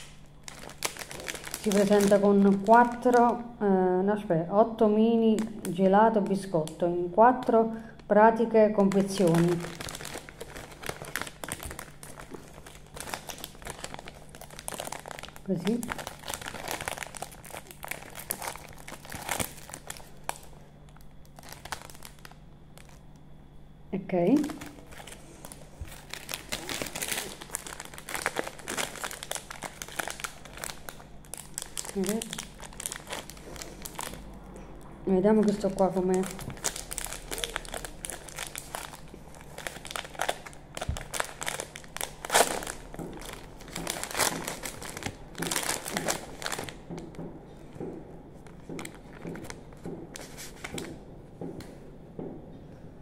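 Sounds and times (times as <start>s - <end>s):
plastic bag crinkling: 0.0s - 3.6s, 5.2s - 6.8s, 7.9s - 23.2s, 24.3s - 34.3s, 35.3s - 47.8s, 48.4s - 51.0s.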